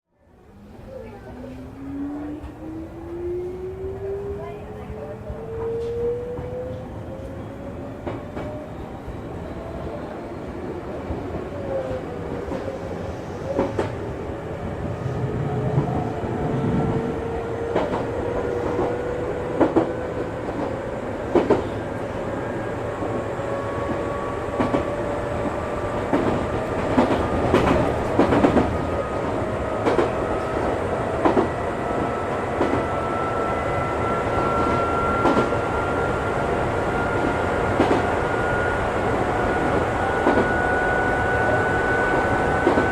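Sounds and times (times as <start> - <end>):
low rumble of train wheels: 0.3 - 42.9.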